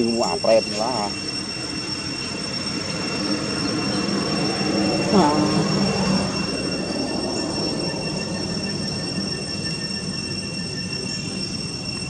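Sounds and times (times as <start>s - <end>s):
high-pitched background whine: 0.0s - 12.0s.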